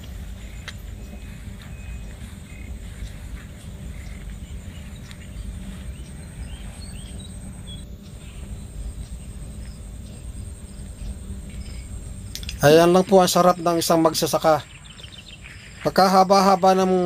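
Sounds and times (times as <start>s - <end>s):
bird chirps: 0.0s - 17.0s
steady low rumble: 0.0s - 17.0s.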